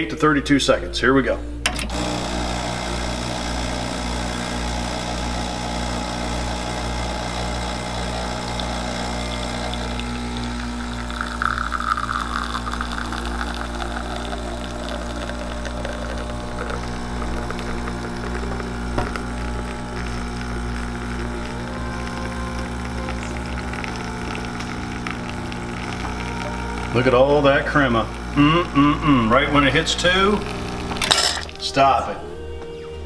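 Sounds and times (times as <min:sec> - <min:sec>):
espresso machine pump humming: 0:01.9 - 0:31.6.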